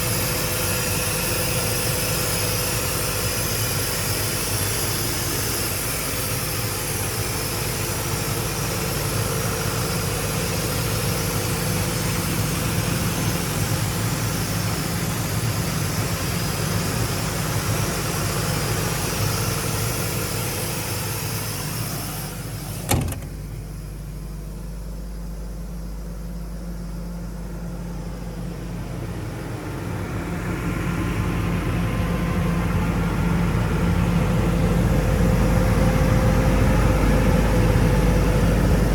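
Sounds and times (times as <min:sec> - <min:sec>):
diesel air compressor running: 0:00.0 - 0:38.9.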